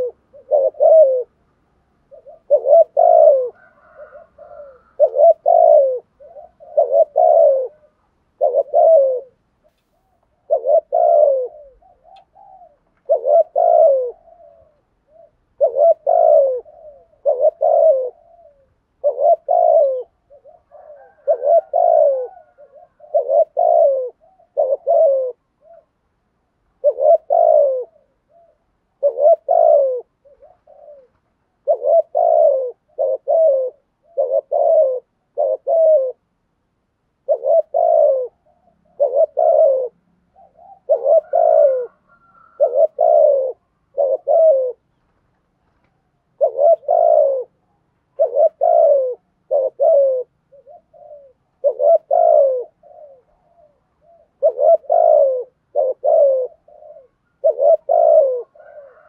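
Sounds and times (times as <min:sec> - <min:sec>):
dove cooing: 0:00.0 - 0:36.3, 0:37.1 - 0:59.0.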